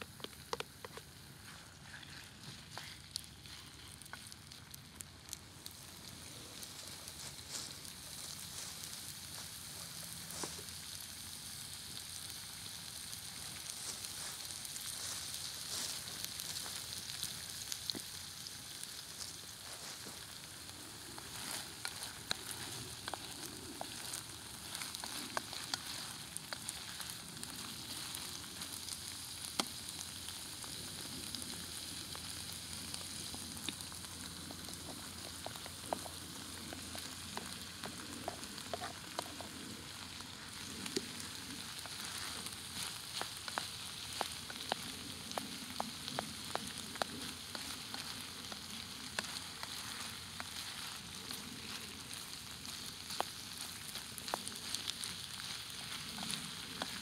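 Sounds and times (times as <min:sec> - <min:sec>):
chicken and onions sizzling in a pan: 0:00.0 - 0:57.0.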